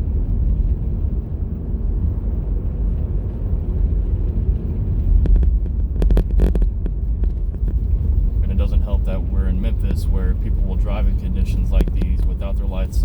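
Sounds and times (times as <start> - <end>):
car engine rumble from inside cabin: 0.0 - 13.0
tyre noise on snowy road: 0.0 - 13.0.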